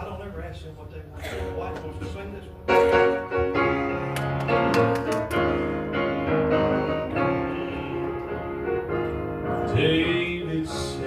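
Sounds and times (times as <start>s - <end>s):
piano chords: 1.2s - 11.0s.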